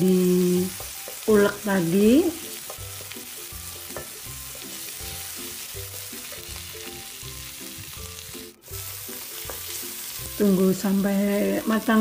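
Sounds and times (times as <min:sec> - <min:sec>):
oil sizzling in a wok: 0:00.0 - 0:12.0
soft background music: 0:00.0 - 0:12.0.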